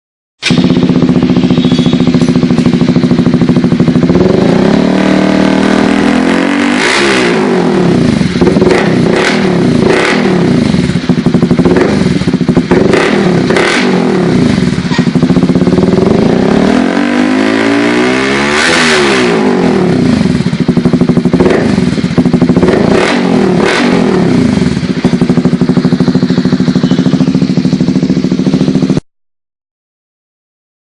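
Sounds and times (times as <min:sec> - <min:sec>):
motorcycle engine idling and revving: 0:00.4 - 0:29.0.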